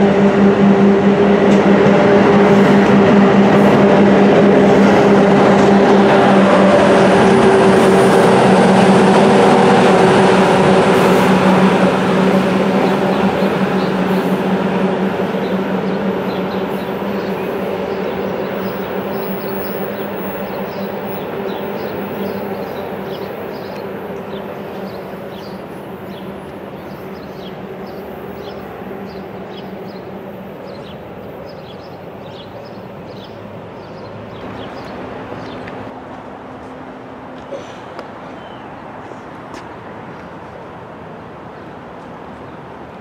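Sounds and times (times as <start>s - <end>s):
train locomotive hum: 0.0s - 43.0s.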